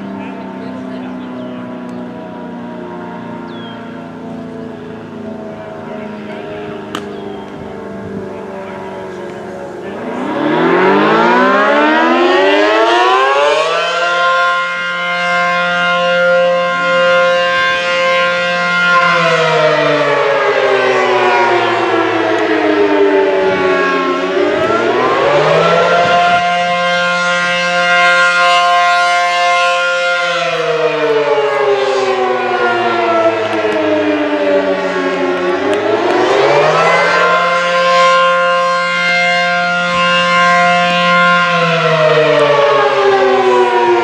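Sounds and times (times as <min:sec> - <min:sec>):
warning siren wailing: 0:00.0 - 0:44.0.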